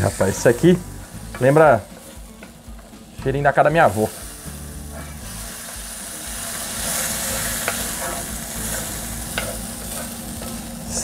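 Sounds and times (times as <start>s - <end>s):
onions sizzling in a frying pan: 0.0s - 11.0s.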